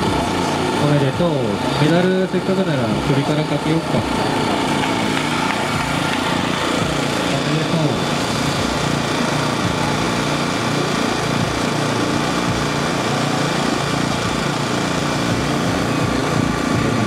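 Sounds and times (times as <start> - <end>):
small engine droning: 0.0 - 17.0.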